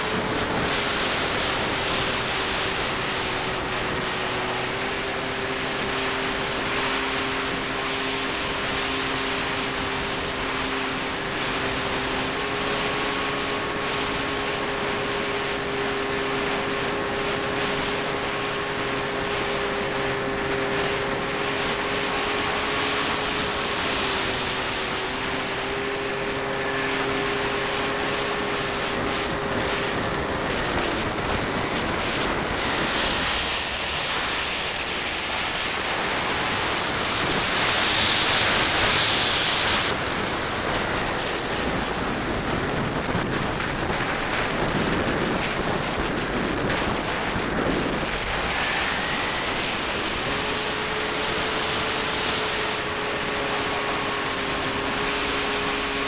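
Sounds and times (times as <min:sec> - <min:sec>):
electric motor and propeller humming: 0:00.0 - 0:56.0
wind rushing over microphone: 0:00.0 - 0:56.0.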